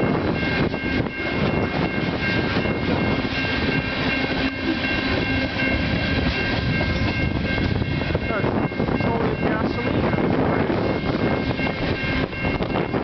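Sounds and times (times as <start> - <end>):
high-pitched tones: 0.0 - 13.0
steel wheels rumbling on rail: 0.0 - 13.0.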